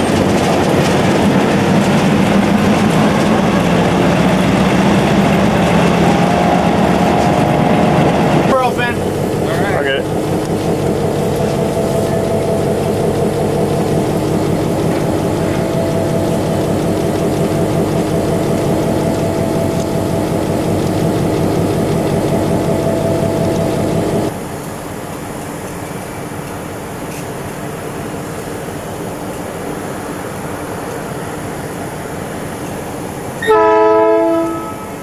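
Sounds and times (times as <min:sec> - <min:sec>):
diesel engine running: 0:00.0 - 0:33.4.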